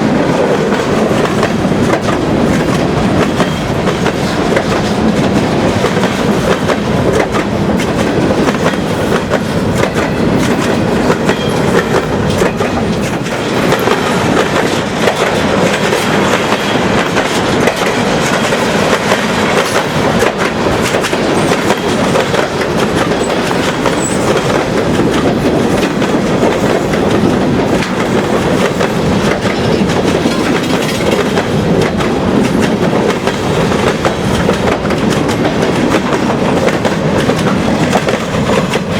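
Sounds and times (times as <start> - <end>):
freight train cars rolling past: 0.0 - 38.9
wheels clacking over rail joints: 0.0 - 38.9.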